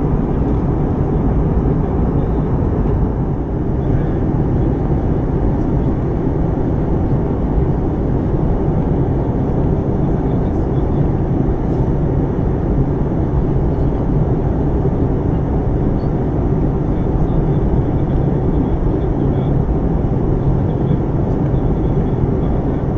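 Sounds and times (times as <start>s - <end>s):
jet airliner cabin roar: 0.0s - 22.9s.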